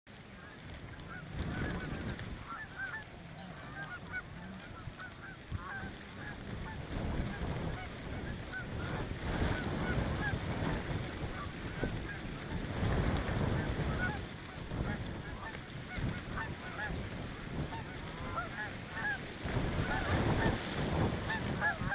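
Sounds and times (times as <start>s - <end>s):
geese honking: 0.1s - 21.9s.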